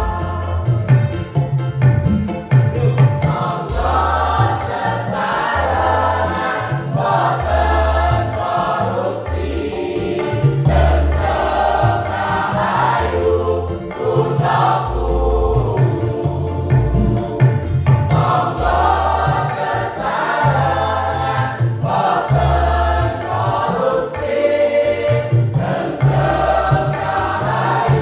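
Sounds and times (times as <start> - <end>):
low bass notes: 0.0 - 5.0, 5.6 - 23.7
choir singing in parts: 0.0 - 28.0.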